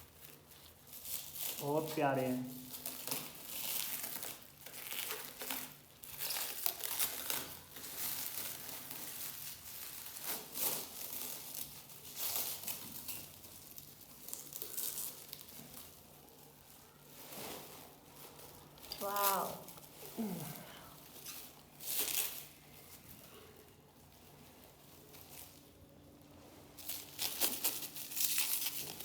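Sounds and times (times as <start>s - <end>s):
packing material crinkling: 0.0s - 29.0s.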